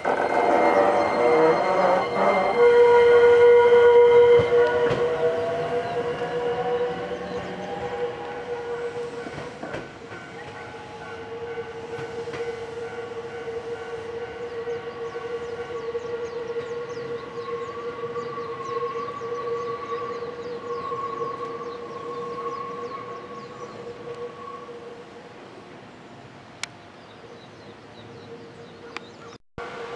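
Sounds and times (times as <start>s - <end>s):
train wheels squealing: 0.0s - 25.4s.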